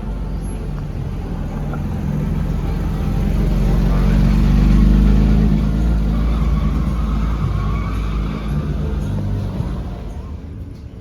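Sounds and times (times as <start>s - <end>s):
car engine accelerating past: 0.0s - 10.5s.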